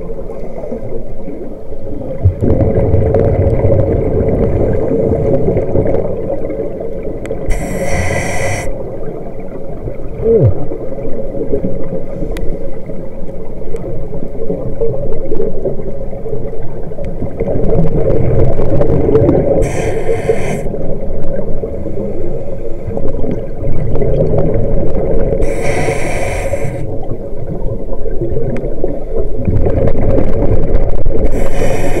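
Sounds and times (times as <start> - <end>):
underwater exhaust bubbles hissing: 2.1 - 13.5, 16.1 - 27.6, 28.2 - 32.0.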